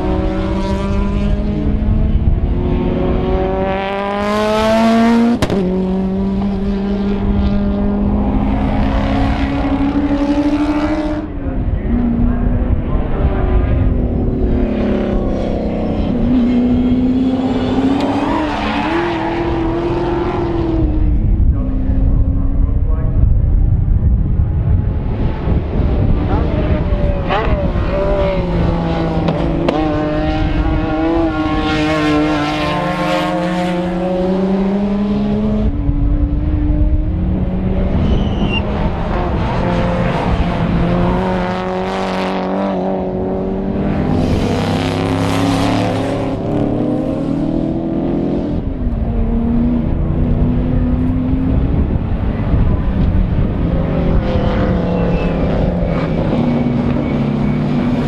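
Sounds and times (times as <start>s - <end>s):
racing cars passing at speed: 0.0s - 58.0s.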